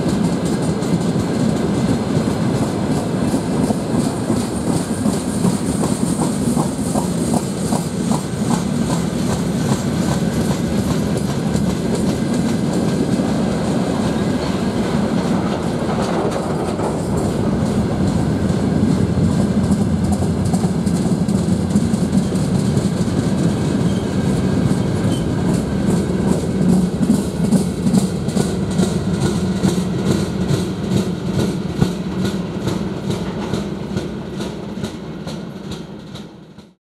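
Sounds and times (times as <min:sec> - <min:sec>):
freight train wheels rumbling: 0:00.0 - 0:36.8
train clickety-clack: 0:00.0 - 0:36.8.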